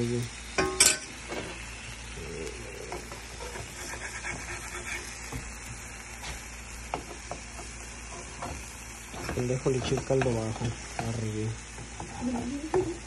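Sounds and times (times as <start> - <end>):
meat sizzling in a skillet: 0.0 - 13.0.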